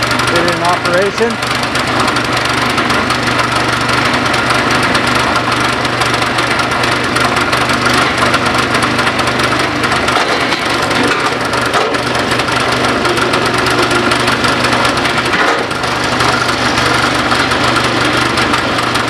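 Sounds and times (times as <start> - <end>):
wood splitter engine running: 0.0 - 19.0.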